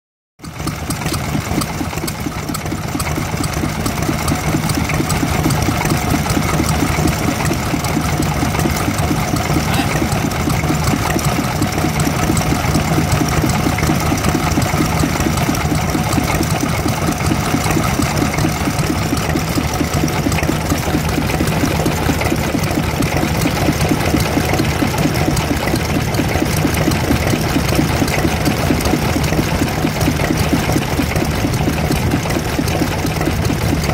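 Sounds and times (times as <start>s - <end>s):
stationary engine running: 0.4s - 33.9s.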